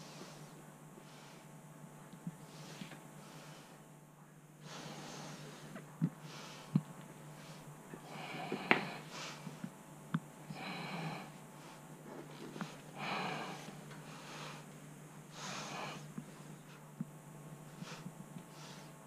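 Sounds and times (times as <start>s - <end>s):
person breathing heavily: 0.0s - 1.6s, 2.3s - 3.9s, 4.6s - 9.7s, 10.4s - 16.8s, 17.6s - 19.0s.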